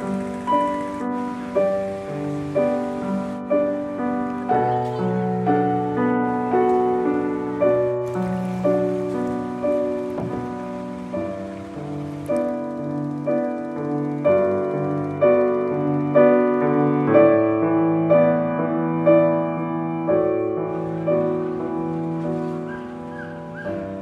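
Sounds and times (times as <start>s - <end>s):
gentle piano chords: 0.0s - 24.0s.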